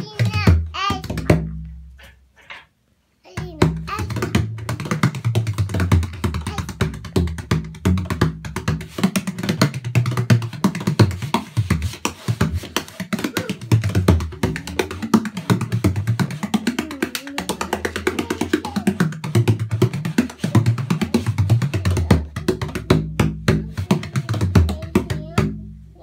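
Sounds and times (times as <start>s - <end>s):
frame drum played fast: 3.4s - 25.6s.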